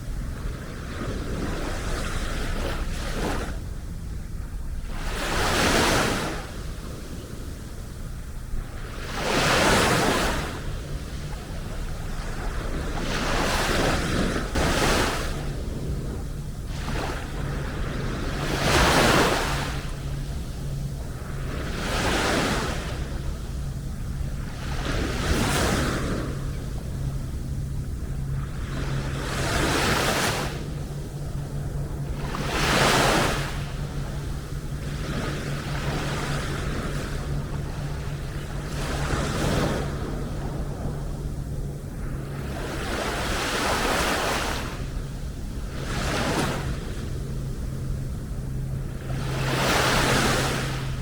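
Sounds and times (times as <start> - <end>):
sea waves breaking on beach: 0.0 - 51.0
steady low hum: 0.0 - 51.0.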